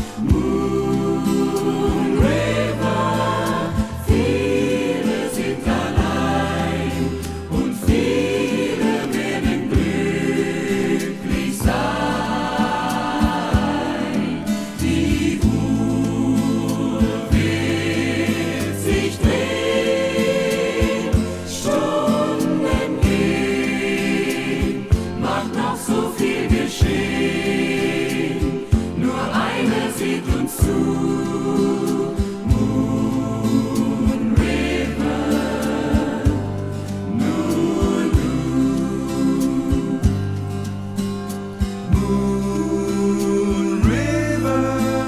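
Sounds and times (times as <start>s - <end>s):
choir singing sustained chords: 0.0s - 45.0s.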